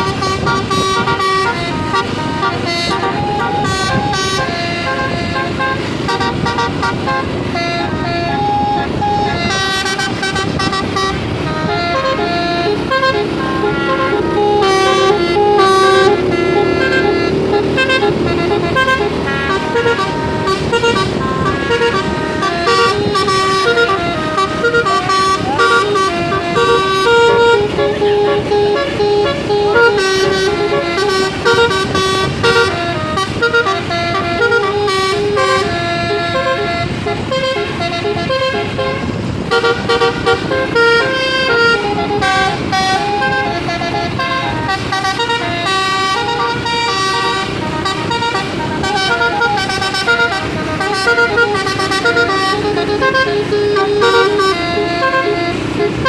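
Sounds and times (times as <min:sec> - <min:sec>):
bus horns playing a tune: 0:00.0 - 0:56.0.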